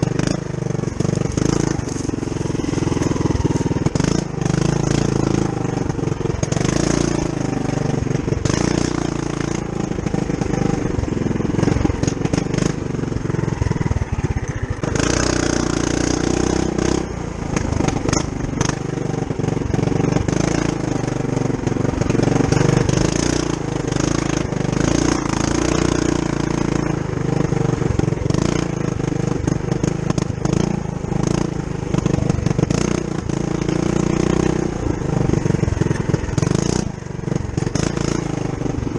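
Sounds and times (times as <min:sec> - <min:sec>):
mini bike engine running: 0:00.0 - 0:38.9.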